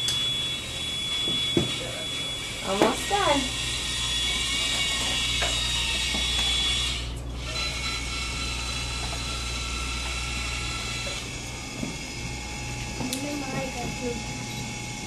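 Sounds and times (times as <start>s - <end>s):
x-ray machine whirring: 0.0s - 15.0s.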